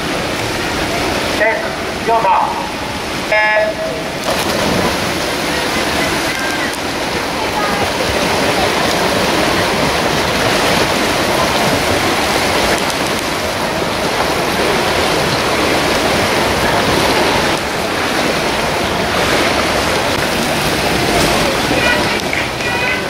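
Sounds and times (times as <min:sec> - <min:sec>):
swimmers splashing in pool: 0:00.0 - 0:23.0.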